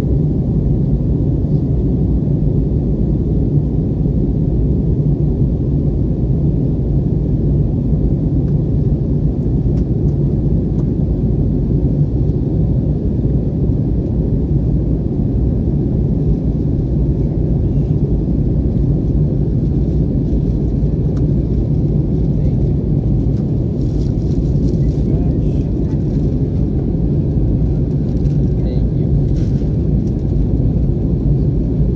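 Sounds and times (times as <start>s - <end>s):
airliner cabin engine roar: 0.0s - 31.9s.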